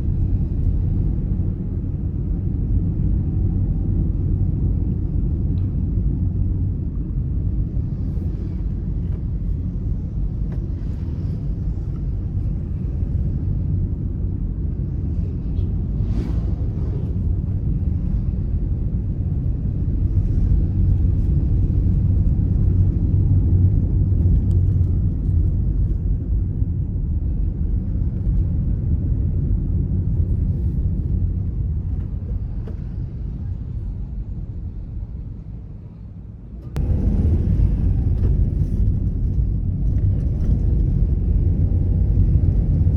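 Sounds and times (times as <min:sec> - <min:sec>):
car engine and tyre road noise: 0:00.0 - 0:42.9.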